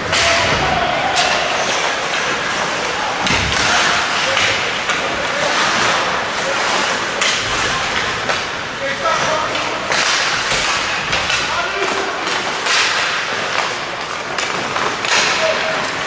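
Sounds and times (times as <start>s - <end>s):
arena noise: 0.0s - 16.0s
hockey puck and stick cracks: 0.0s - 16.0s.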